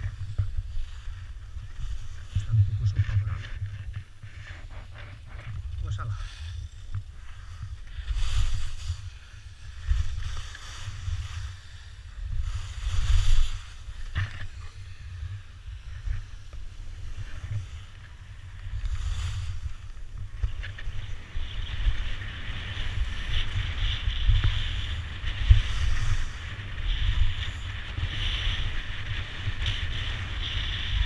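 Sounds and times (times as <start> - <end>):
skis scraping over snow: 0.0 - 31.0
wind buffeting microphone: 0.0 - 31.0.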